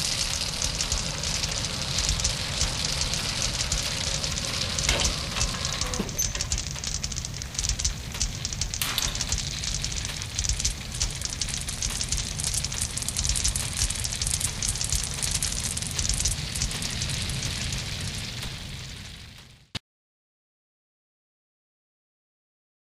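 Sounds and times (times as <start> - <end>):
low rumble of flames: 0.0 - 19.8
wood fire crackling and popping: 0.0 - 19.8.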